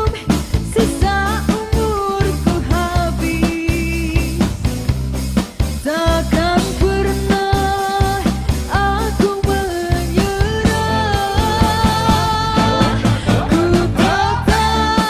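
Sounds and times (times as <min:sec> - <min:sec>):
woman singing a pop ballad: 0:00.0 - 0:04.7, 0:05.8 - 0:15.0
percussion beat: 0:00.0 - 0:15.0.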